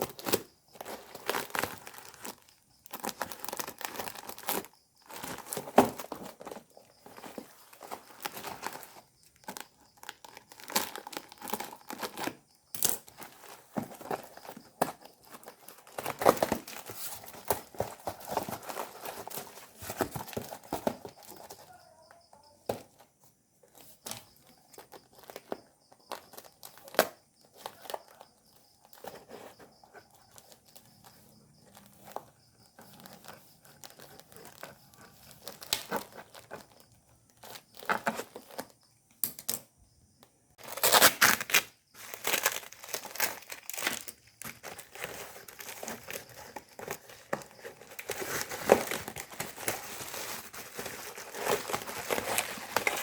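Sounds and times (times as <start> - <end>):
plastic packaging crinkling: 0.0 - 21.7, 24.3 - 38.7, 40.6 - 53.0.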